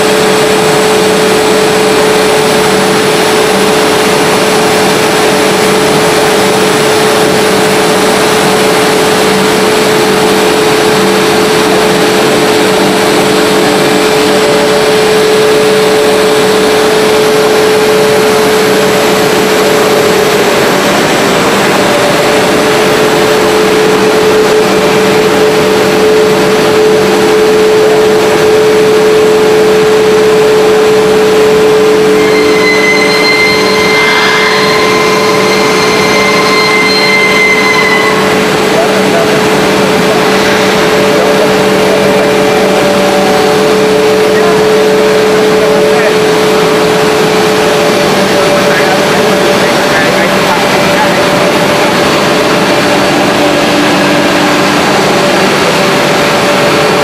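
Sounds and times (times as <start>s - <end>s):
extrusion machinery drone: 0.0s - 57.0s
higher steady tones: 0.1s - 57.0s.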